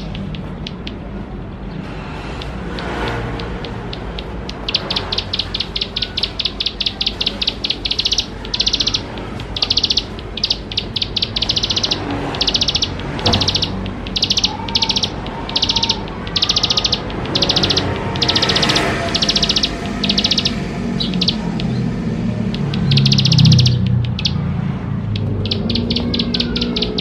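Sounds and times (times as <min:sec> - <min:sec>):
bird buzzing trills: 0:02.2 - 0:27.0.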